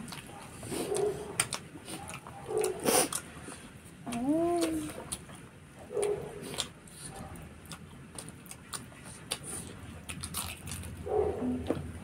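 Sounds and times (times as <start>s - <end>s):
chewing and lip smacks: 0.0s - 12.0s.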